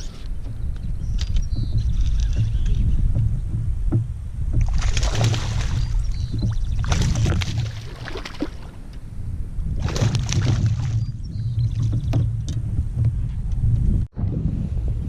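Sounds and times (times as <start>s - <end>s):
water splashing beside kayak: 0.0s - 13.4s
wind on microphone: 0.0s - 15.0s.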